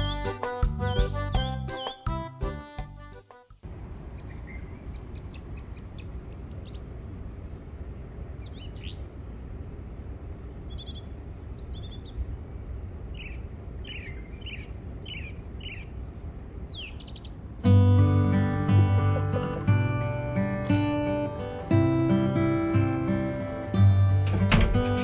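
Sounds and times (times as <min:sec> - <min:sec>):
songbirds chirping: 0:00.0 - 0:02.5, 0:03.6 - 0:25.0
low background rumble: 0:03.6 - 0:25.0.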